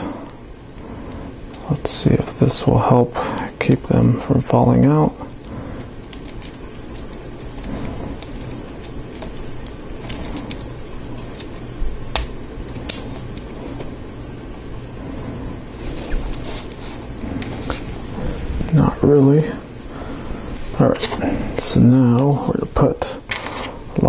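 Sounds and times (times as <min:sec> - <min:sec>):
steady low background hum: 0:00.0 - 0:24.0.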